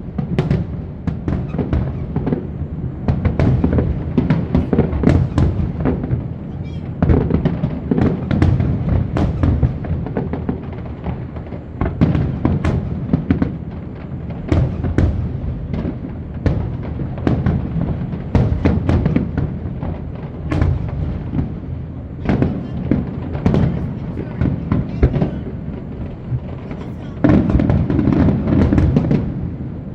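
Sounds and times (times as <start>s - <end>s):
firework bangs: 0.0s - 29.9s
low rumble of fireworks: 0.0s - 29.9s.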